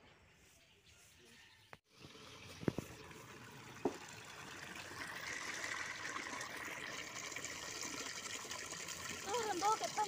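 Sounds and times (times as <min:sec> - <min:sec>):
water gushing into a basin: 0:01.9 - 0:10.0.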